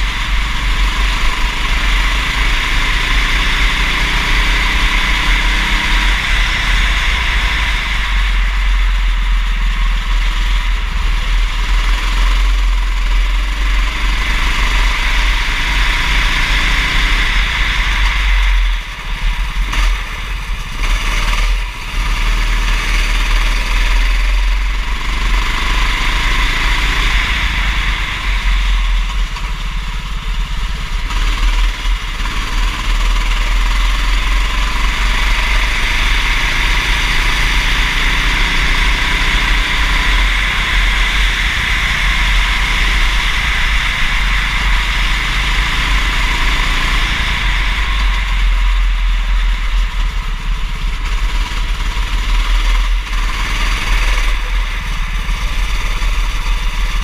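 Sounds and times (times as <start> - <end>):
kart engine revving: 0.0 - 57.0
steady loud hiss: 0.0 - 57.0.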